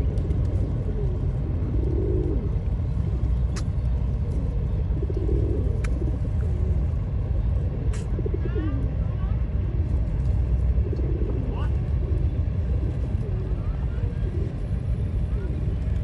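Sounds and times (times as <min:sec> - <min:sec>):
pigeons cooing: 0:00.0 - 0:09.0, 0:10.7 - 0:16.0
low rumble: 0:00.0 - 0:16.0.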